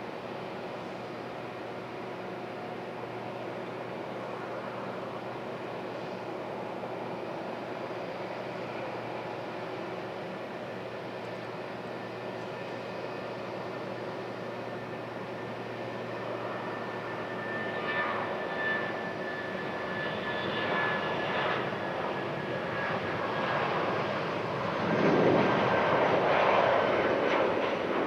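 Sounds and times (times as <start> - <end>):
jet engines rushing and whining: 0.0 - 28.0.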